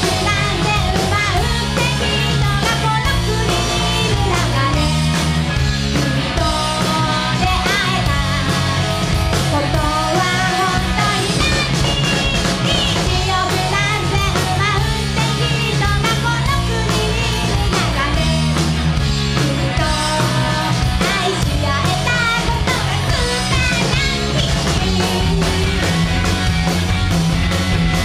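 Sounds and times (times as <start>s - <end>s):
woman singing lead: 0.0s - 26.7s
bass guitar: 0.0s - 28.0s
drums: 0.0s - 28.0s
electric guitars: 0.0s - 28.0s.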